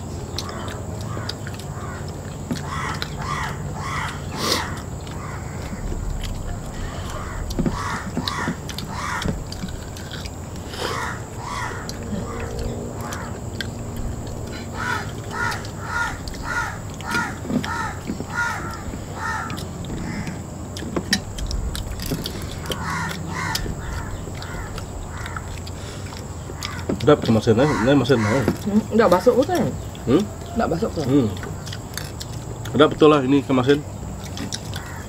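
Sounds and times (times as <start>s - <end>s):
bird calling: 0.0s - 32.7s, 33.4s - 35.0s
people eating with hands: 0.0s - 35.0s.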